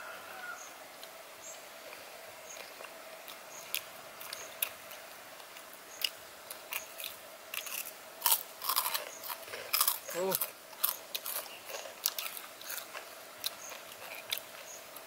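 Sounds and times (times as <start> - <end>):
crunching fried food: 1.8 - 15.0.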